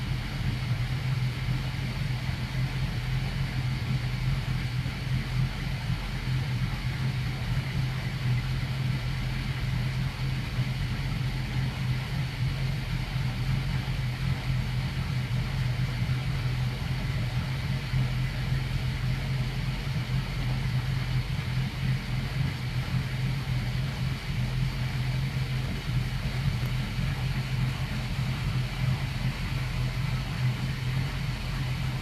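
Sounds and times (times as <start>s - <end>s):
boat engines idling: 0.0s - 32.0s.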